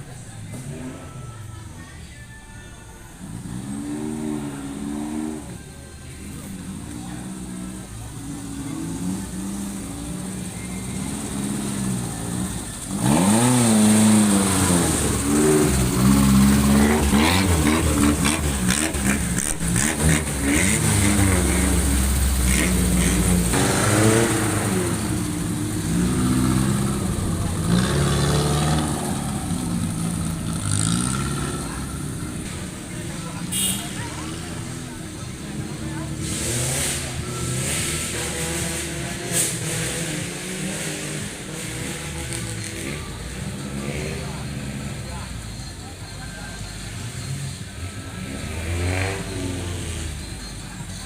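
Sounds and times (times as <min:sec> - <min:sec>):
off-road vehicle engine revving: 0:03.2 - 0:51.0.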